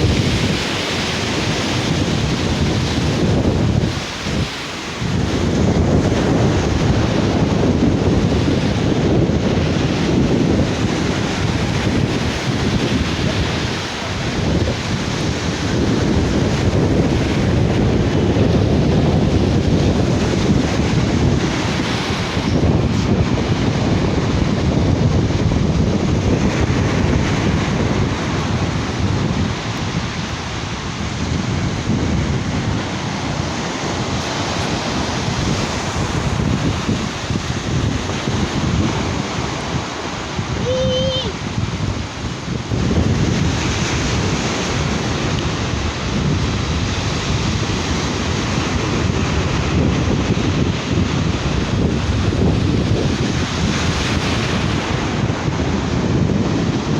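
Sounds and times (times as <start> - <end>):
waves washing onto beach: 0.0 - 56.9
wind buffeting microphone: 0.0 - 56.9.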